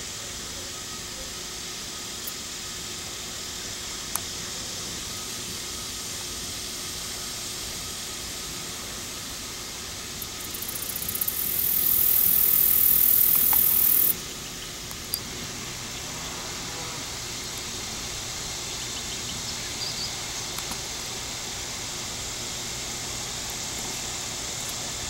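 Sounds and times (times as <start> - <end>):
outdoor background hiss: 0.0 - 25.0
cicada buzzing: 0.2 - 25.0.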